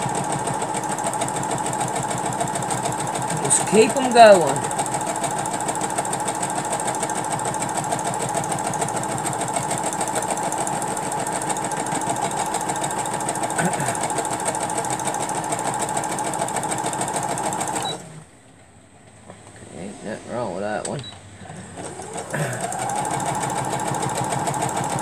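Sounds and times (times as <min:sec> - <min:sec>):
electric sewing machine running: 0:00.0 - 0:18.3, 0:21.5 - 0:25.0.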